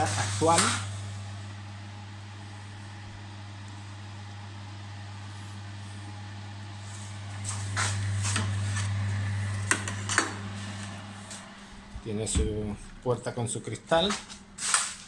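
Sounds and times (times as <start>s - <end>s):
incubator electrical hum: 0.0s - 15.0s.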